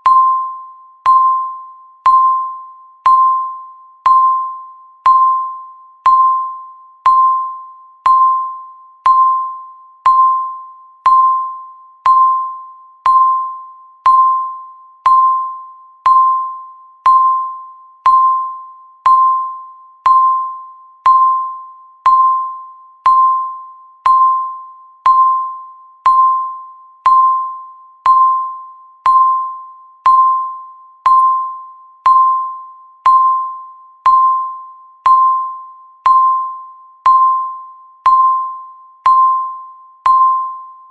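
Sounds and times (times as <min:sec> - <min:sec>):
timer electronic beeps: 0:00.0 - 0:40.9.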